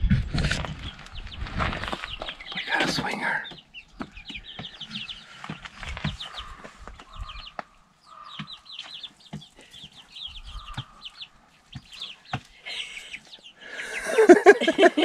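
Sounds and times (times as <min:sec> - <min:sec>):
chicks peeping and clucking: 0:00.0 - 0:15.0.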